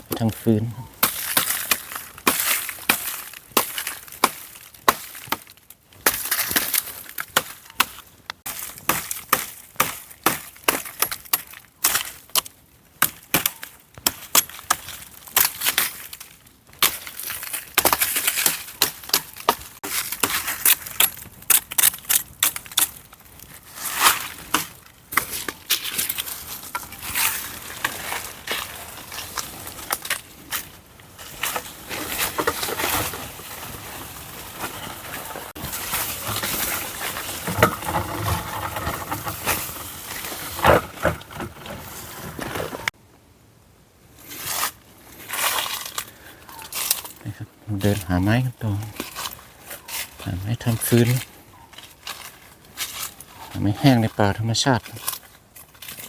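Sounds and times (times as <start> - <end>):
dry wood cracking and snapping: 0.2 - 42.9, 45.3 - 56.0.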